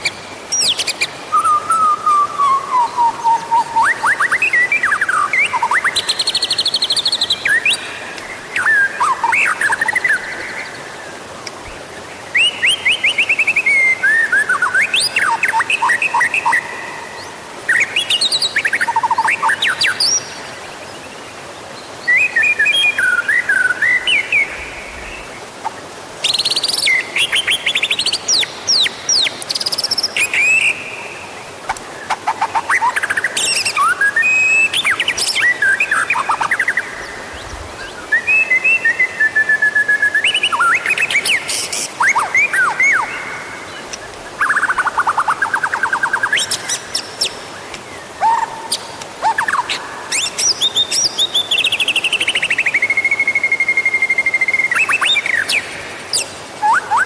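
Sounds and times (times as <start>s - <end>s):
bird singing whistles and trills: 0.0s - 10.7s, 12.3s - 20.5s, 22.0s - 25.2s, 26.2s - 31.2s, 32.0s - 57.0s.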